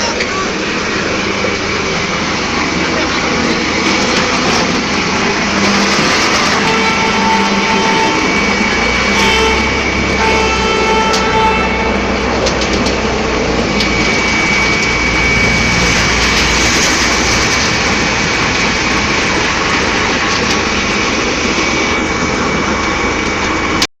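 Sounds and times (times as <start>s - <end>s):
concrete mixer pump running: 0.0s - 23.9s
thin steady whine: 0.0s - 23.9s.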